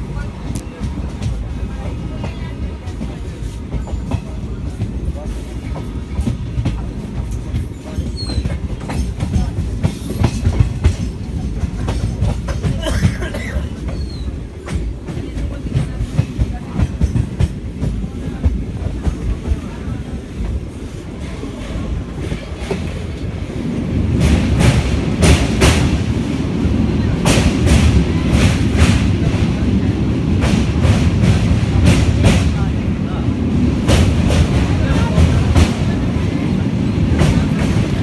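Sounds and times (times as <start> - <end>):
train rumble inside coach: 0.0 - 38.0.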